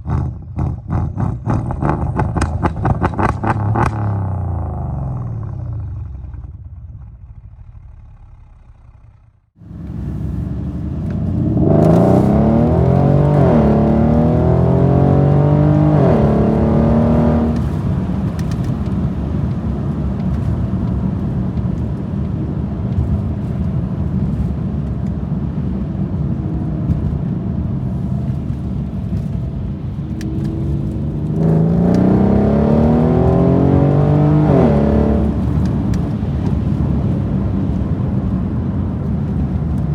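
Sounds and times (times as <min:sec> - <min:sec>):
engine exhaust revving and idling: 0:00.0 - 0:39.9.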